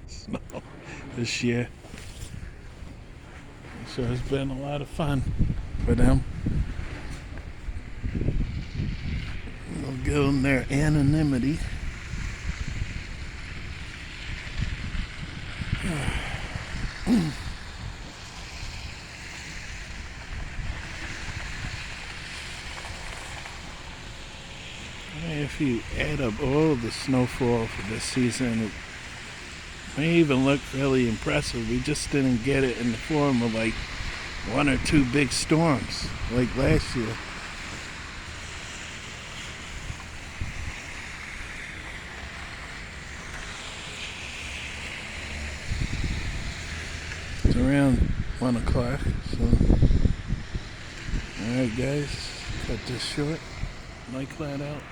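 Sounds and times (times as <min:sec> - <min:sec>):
steady outdoor hiss: 0:00.0 - 0:54.9
wind buffeting microphone: 0:01.0 - 0:54.9.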